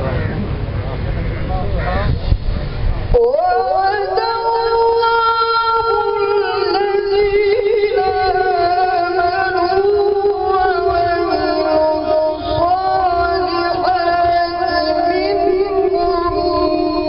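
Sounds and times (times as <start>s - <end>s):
man reciting melodically: 3.1s - 17.0s.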